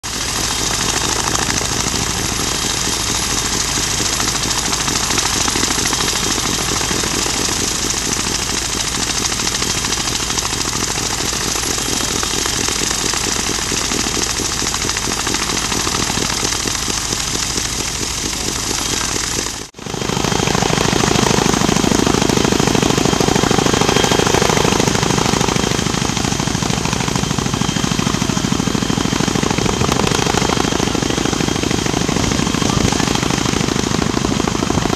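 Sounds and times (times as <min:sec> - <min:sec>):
helicopter high whine: 0:00.0 - 0:34.9
helicopter rotor chop: 0:00.0 - 0:34.9.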